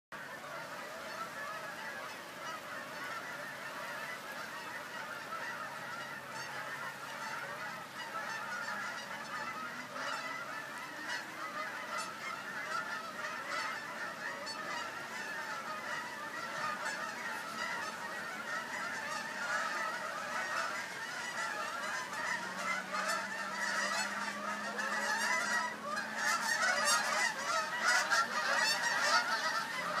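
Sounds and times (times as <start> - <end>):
geese honking in flight: 0.2 - 30.0.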